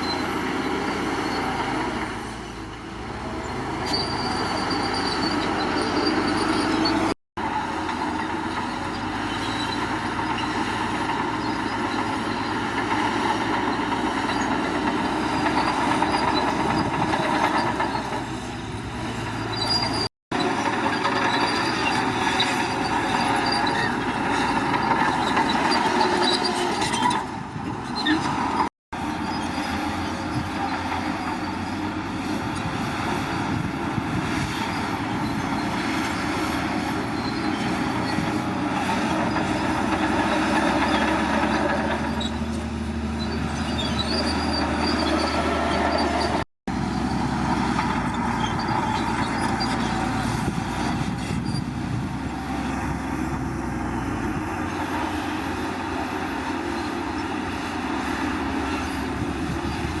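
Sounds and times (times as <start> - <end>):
diesel engine under load: 0.0 - 60.0
metallic squealing and clatter: 0.0 - 60.0.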